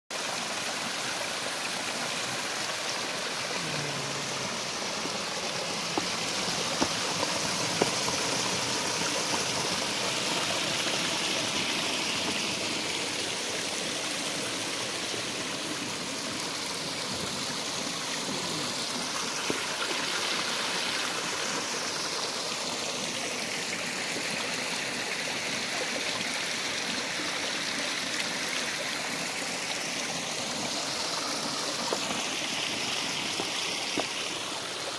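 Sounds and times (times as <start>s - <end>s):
stream splashing over rocks: 0.1s - 34.9s.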